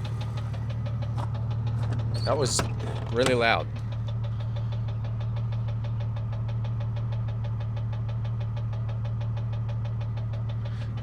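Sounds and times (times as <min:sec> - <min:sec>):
car engine running: 0:00.0 - 0:11.0
engine valvetrain tick-knock: 0:00.0 - 0:11.0.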